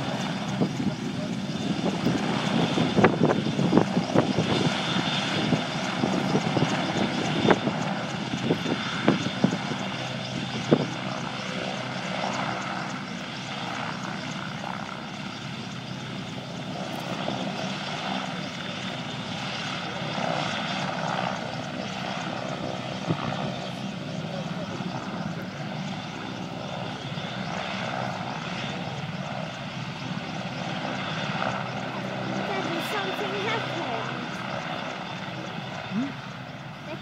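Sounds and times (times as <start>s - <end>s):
helicopter engines and rotor: 0.0s - 37.0s.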